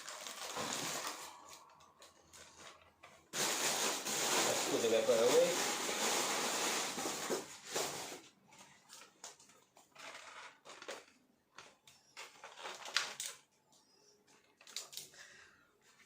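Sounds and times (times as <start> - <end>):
plastic rustling: 0.0 - 13.5.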